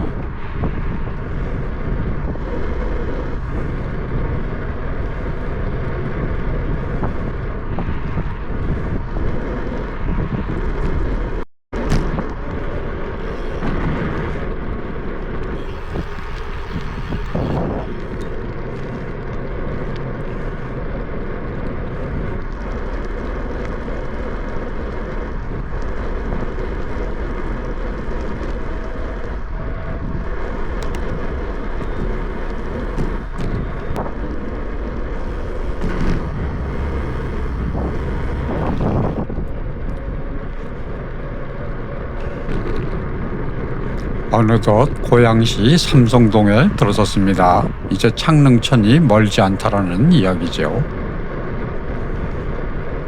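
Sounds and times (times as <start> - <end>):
bicycle tyre road noise: 0.0 - 53.0
wind on microphone: 0.0 - 53.0.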